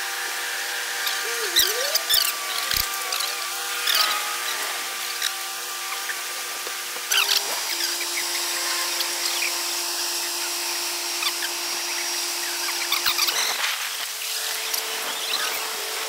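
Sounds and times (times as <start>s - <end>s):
construction machinery whine: 0.0s - 16.0s.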